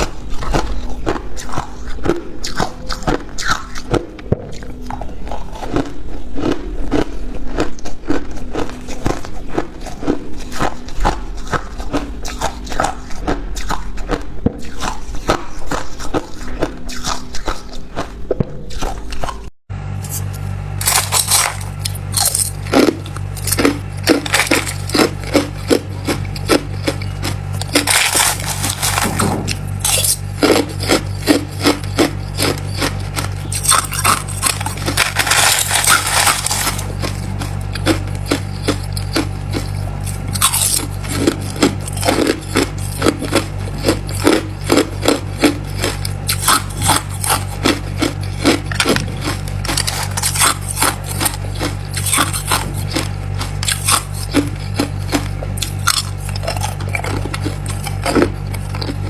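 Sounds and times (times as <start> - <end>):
ice crunching in mouth: 0.0 - 59.0
steady low hum: 0.0 - 59.0.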